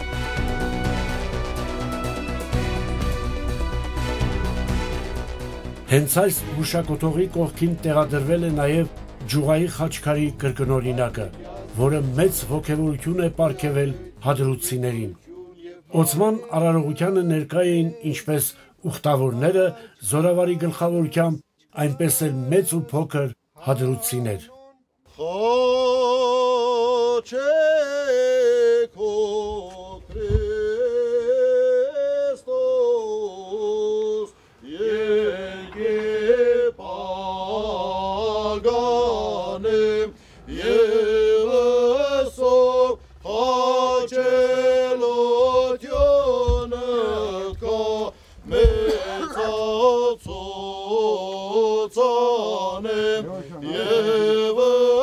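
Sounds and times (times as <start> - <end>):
men chanting a hymn: 4.7 - 55.0.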